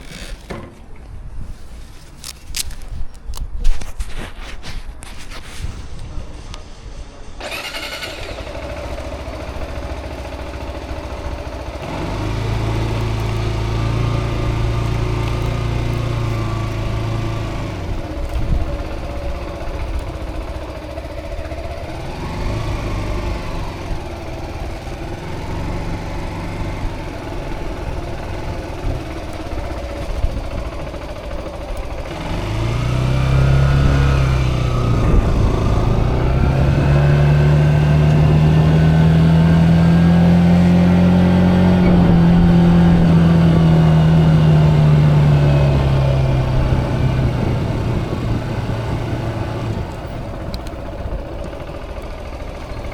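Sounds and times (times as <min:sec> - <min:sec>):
motorcycle engine revving: 0:07.4 - 0:52.9.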